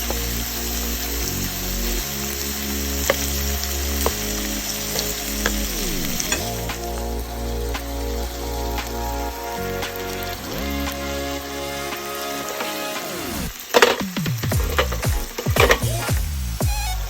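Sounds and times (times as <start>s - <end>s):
food sizzling on a grill: 0.0s - 17.0s.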